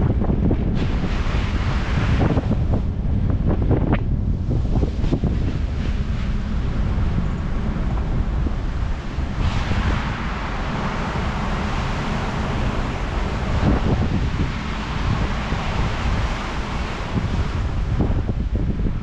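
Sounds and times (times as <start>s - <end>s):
low rumble of car driving: 0.0s - 19.0s
wind buffeting microphone: 0.0s - 19.0s.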